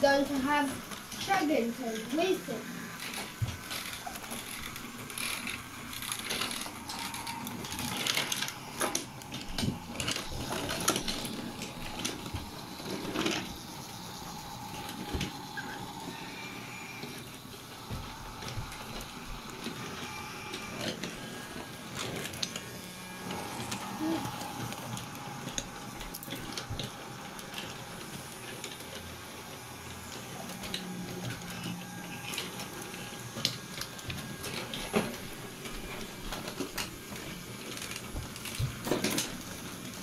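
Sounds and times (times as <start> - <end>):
toy trains whirring: 0.0 - 40.0.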